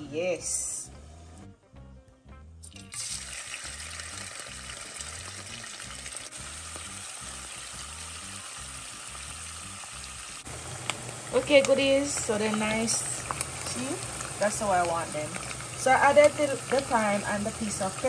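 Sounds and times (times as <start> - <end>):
fish sizzling in hot oil: 2.8 - 18.0.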